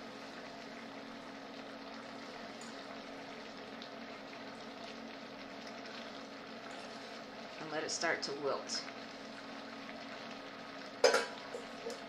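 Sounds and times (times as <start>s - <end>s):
sauce simmering in a pan: 0.0s - 12.0s
steady low hum: 0.0s - 12.0s.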